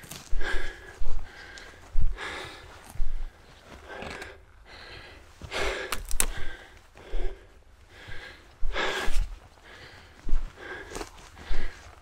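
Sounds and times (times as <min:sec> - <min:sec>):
man gasping for breath: 0:00.0 - 0:12.0.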